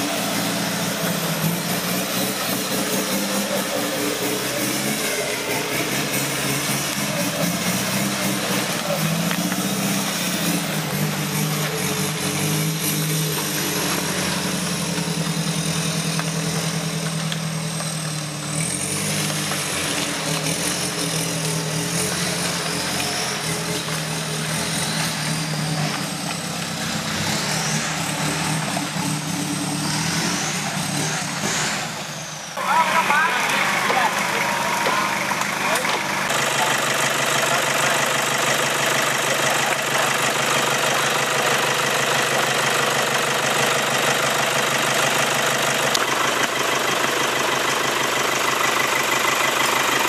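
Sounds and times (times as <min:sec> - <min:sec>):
vehicle engine at low revs: 0:00.0 - 0:50.0.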